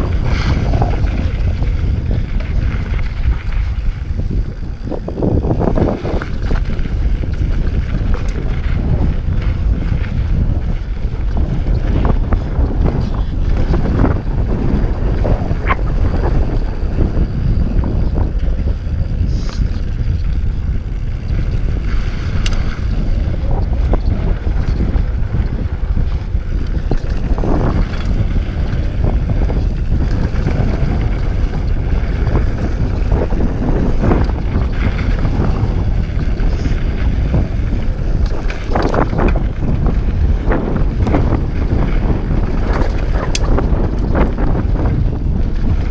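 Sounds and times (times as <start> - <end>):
bike rattles and clicks: 0.0 - 45.9
tyres rumbling on dirt trail: 0.0 - 45.9
wind buffeting microphone: 0.0 - 45.9.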